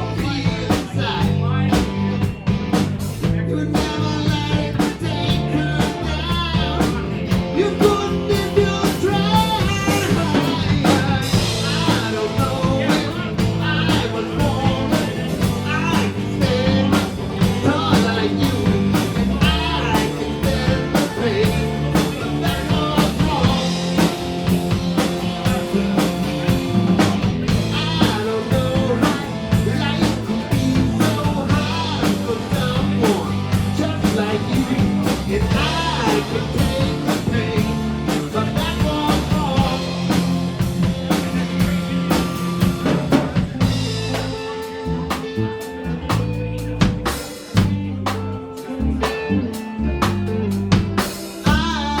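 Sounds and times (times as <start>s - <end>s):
blues-rock band playing: 0.0s - 52.0s
wavering lead guitar line: 0.0s - 52.0s.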